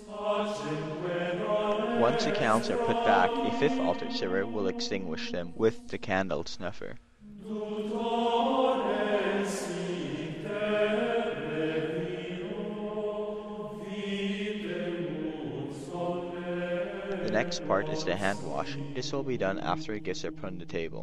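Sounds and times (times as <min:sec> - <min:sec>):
liturgical chant: 0:00.0 - 0:21.0.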